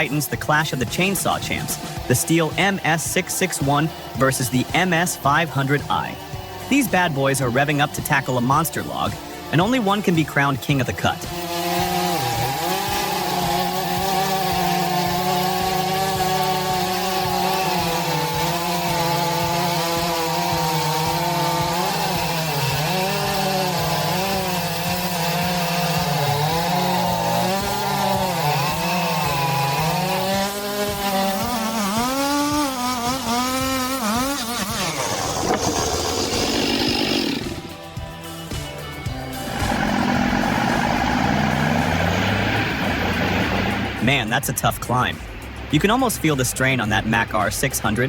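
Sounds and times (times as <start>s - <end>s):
chainsaw cutting a log: 0.0s - 44.4s.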